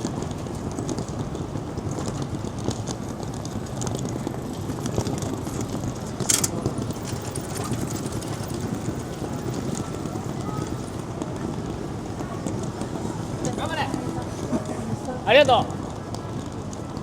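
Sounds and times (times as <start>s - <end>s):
crowd hubbub: 0.0s - 17.0s.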